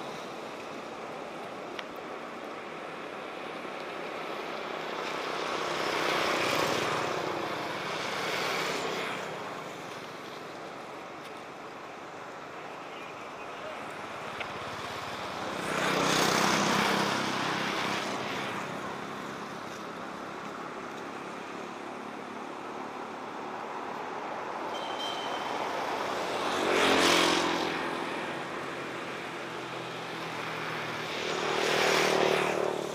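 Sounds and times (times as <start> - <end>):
background traffic noise: 0.0 - 32.9
vehicles passing by: 0.0 - 32.9.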